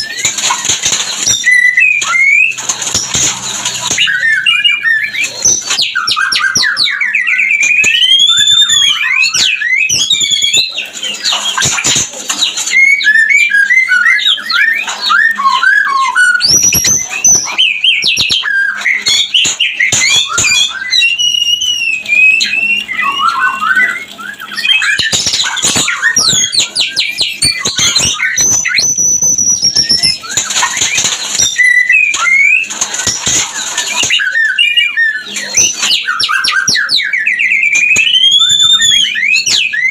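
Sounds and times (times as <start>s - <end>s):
songbird whistling song: 0.0s - 39.9s.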